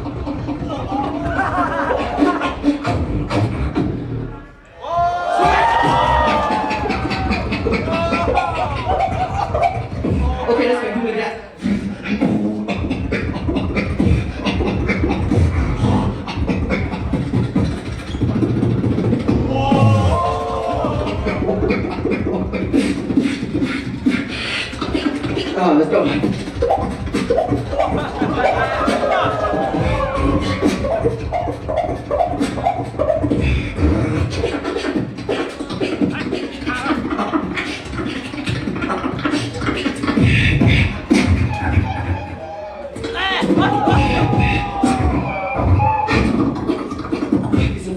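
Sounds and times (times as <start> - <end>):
person beatboxing: 0.0 - 47.9
pitched vocal lines: 0.0 - 47.9.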